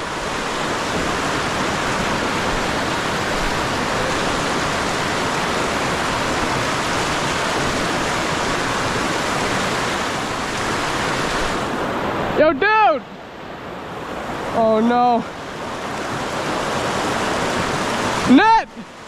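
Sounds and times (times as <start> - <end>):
river flowing over rocks: 0.0 - 19.0.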